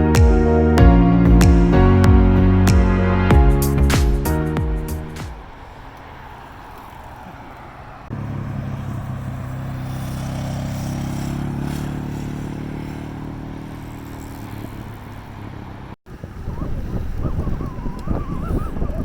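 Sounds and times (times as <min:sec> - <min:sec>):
wind: 0:01.0 - 0:19.0
road rumble: 0:01.2 - 0:19.0
vehicle engine humming: 0:01.2 - 0:19.0.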